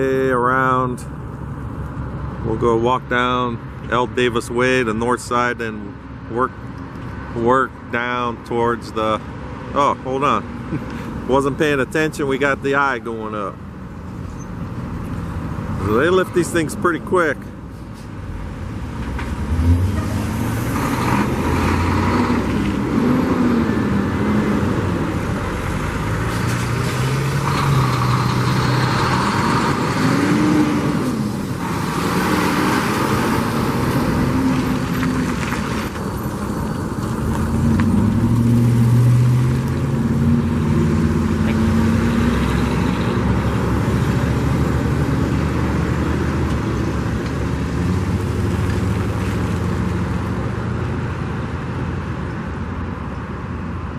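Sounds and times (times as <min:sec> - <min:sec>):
traffic noise: 0:00.0 - 0:53.9
vehicle engines revving: 0:00.0 - 0:53.9.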